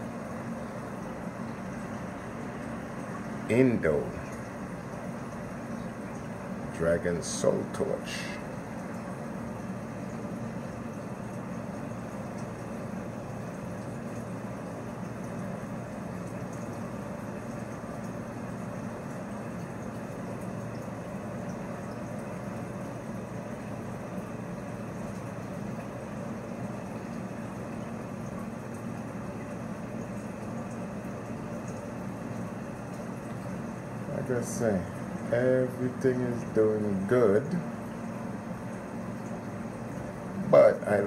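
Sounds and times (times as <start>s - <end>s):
aquarium pumps humming: 0.0s - 41.0s.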